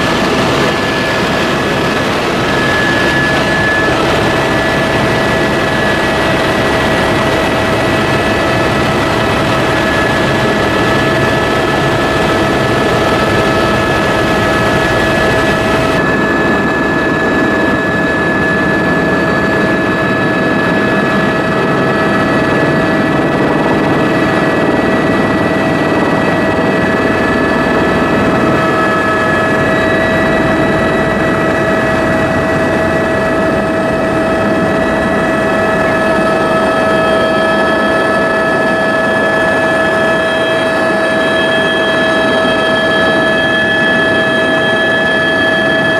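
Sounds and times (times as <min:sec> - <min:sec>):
steady whining tones: 0:00.0 - 0:45.9.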